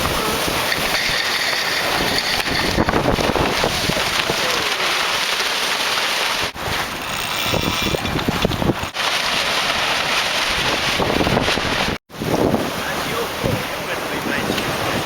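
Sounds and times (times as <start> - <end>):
wind buffeting microphone: 0.0 - 4.8, 6.4 - 15.0
water rushing along hull: 0.0 - 15.0.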